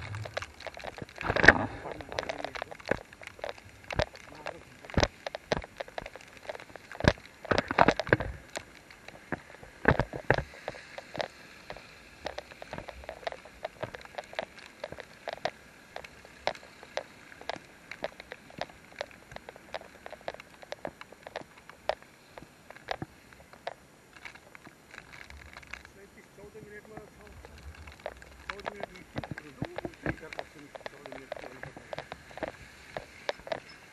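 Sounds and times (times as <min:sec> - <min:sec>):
rain drops pattering: 0:00.0 - 0:33.9.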